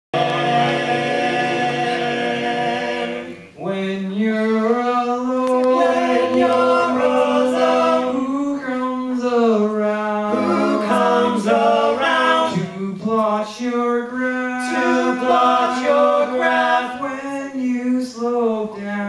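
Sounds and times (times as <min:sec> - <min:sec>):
boys singing in close harmony: 0:00.2 - 0:19.0.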